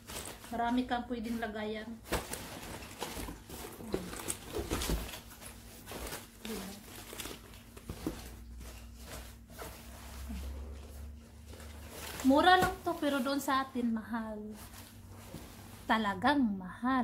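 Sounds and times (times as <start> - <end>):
fabric rustling: 0.0 - 16.2.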